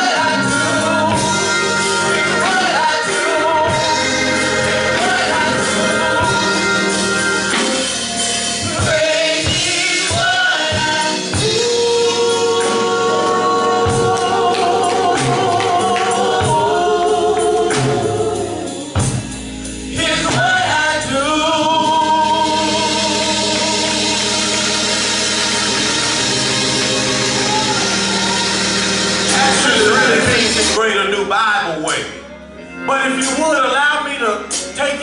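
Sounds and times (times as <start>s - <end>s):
choir singing with instruments: 0.0s - 35.0s.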